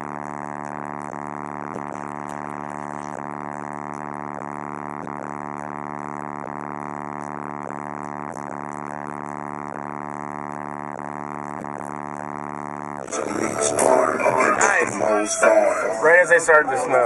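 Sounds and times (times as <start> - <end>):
subwoofer low bass tone: 0.0 - 16.5.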